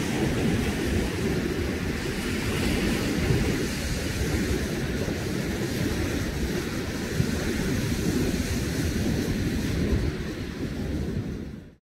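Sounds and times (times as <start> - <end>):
wind on microphone: 0.0 - 11.8.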